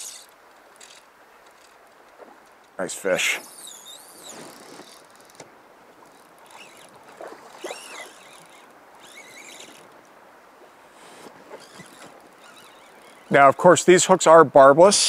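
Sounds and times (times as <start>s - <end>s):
river current flowing: 0.0s - 14.8s.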